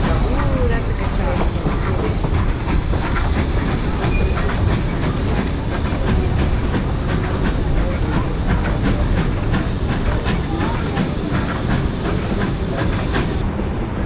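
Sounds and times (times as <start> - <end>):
wheels clacking over rail joints: 0.0 - 13.5
railroad cars rumbling: 0.0 - 14.0.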